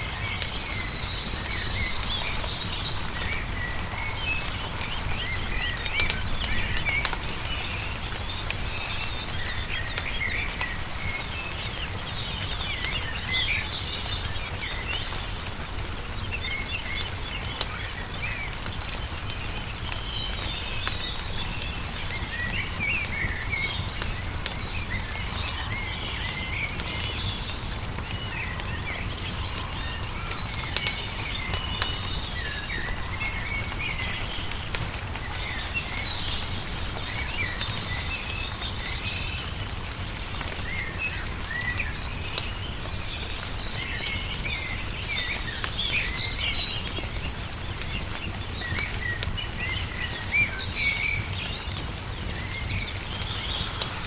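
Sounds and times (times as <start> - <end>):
songbirds chirping: 0.0 - 54.0
wood fire crackling: 0.0 - 54.0.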